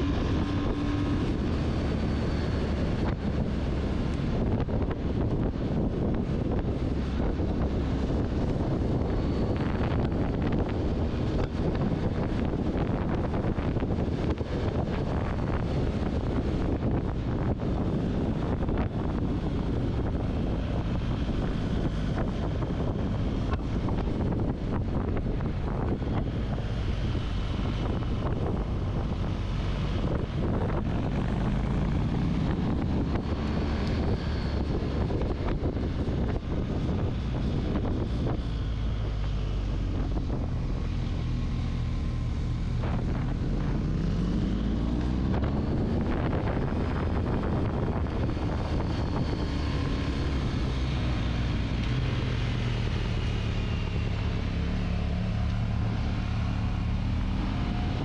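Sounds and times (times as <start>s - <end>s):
motorcycle engine revving: 0.0s - 38.4s, 39.2s - 58.0s
wind buffeting microphone: 0.0s - 58.0s.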